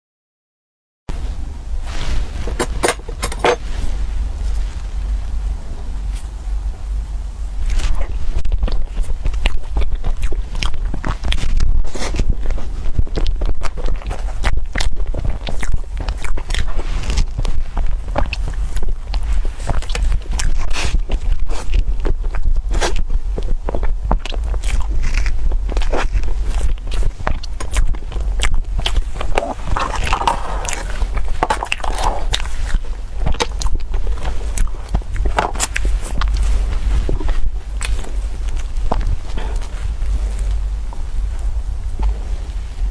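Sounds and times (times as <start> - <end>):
crunching and crackling: 1.1 - 42.9
low rumble: 1.1 - 42.9.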